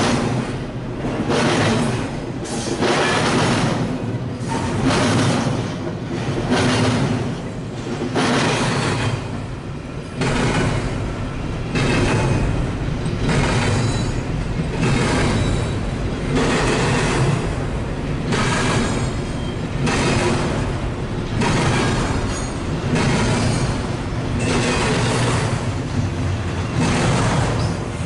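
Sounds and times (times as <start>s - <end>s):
freight train wheels clattering: 0.0s - 28.0s.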